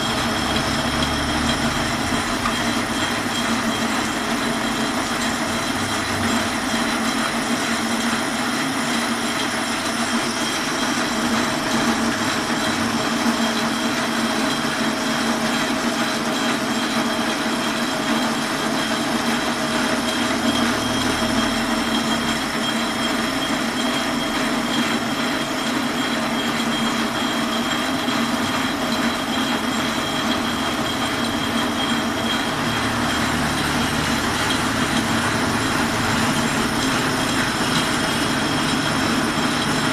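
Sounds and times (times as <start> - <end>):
metal lathe cutting steel: 0.0 - 39.9.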